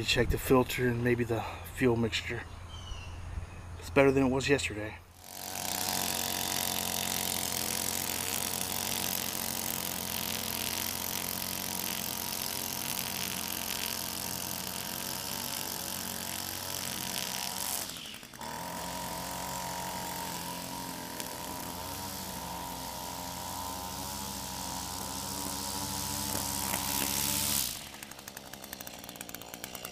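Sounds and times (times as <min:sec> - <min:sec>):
string trimmer cutting grass: 0:05.1 - 0:29.9.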